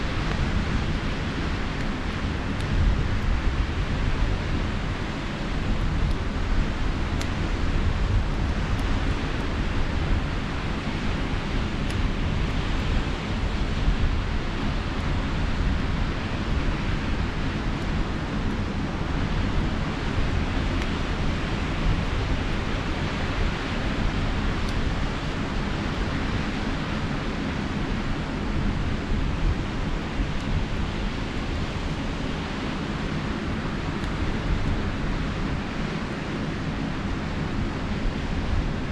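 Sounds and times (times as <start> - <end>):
campfire crackles: 0.0 - 38.9
sea surf washing on shore: 0.0 - 38.9
wind rumbling on microphone: 0.0 - 38.9.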